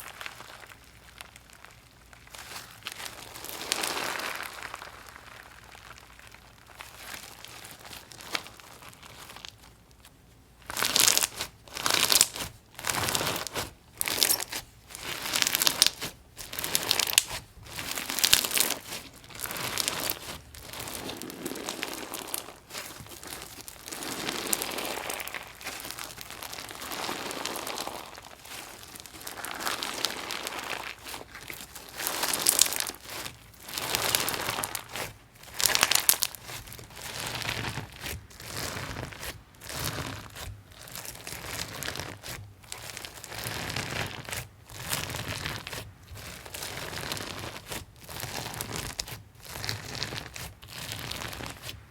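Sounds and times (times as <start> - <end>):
crunchy slime being squeezed: 0.0 - 10.0, 10.6 - 51.9.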